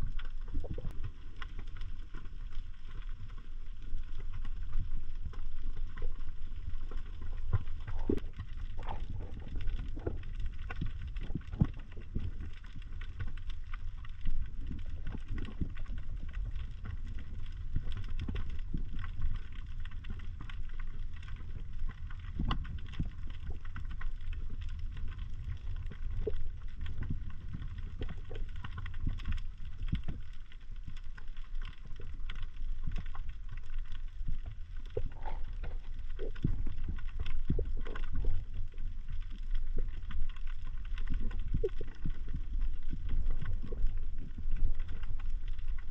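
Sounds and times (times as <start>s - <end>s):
short clicks and crackles: 0.0s - 45.9s
underwater low rumble: 0.0s - 45.9s.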